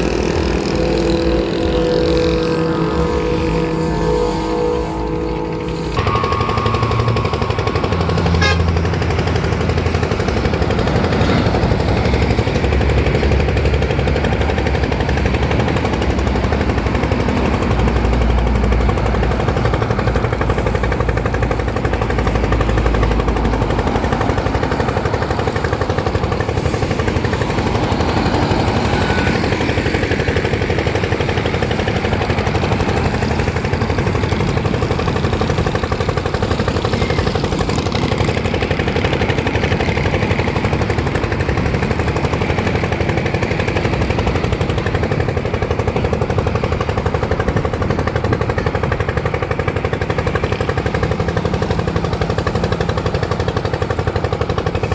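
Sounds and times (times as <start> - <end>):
diesel truck engine clattering: 0.0 - 54.9
heavy trucks passing: 0.0 - 54.9.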